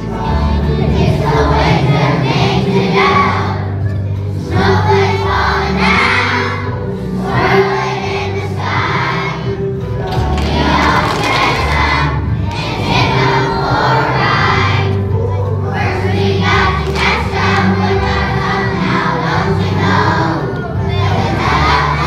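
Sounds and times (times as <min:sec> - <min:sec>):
children's choir singing: 0:00.0 - 0:22.0
instrumental accompaniment with bass: 0:00.0 - 0:22.0.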